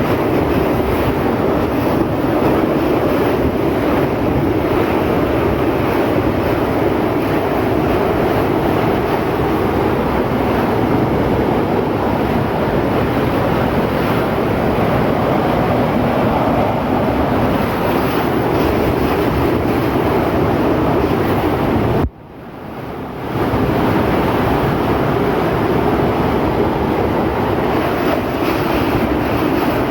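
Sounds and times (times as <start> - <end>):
strong wind buffeting microphone: 0.0 - 29.9.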